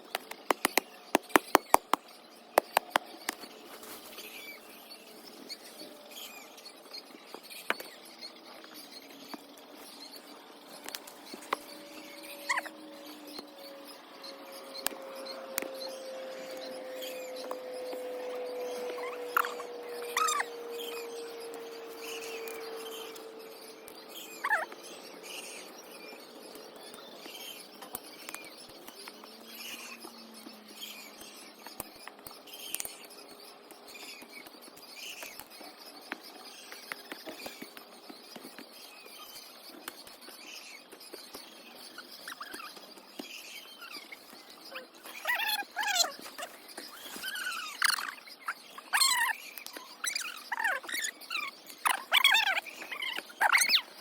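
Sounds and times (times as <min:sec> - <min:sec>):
birds chirping: 0:00.0 - 0:54.0
falling bird calls: 0:00.0 - 0:54.0.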